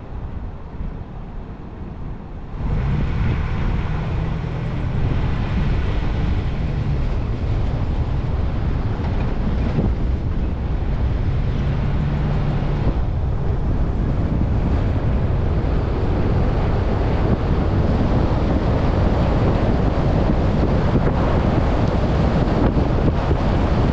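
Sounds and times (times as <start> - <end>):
road and tyre noise: 0.0 - 23.9
wind rushing over microphone: 0.0 - 23.9.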